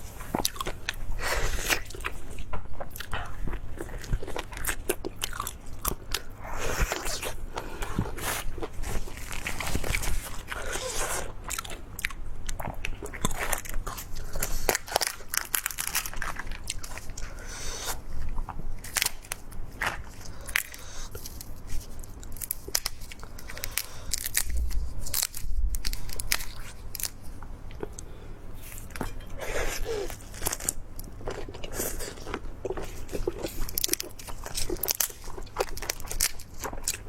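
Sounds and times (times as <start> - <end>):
person chewing crunchy food: 0.0 - 37.0.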